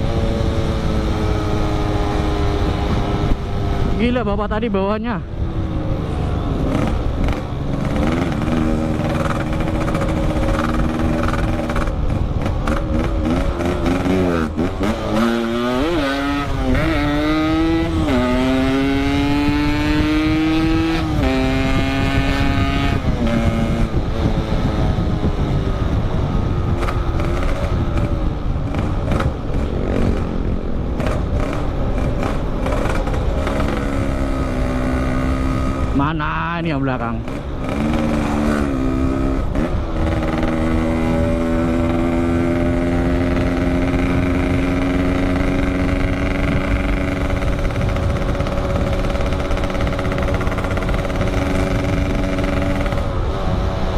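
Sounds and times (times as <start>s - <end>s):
motorcycle engine accelerating: 0.0s - 53.9s
wind and road noise: 0.0s - 53.9s.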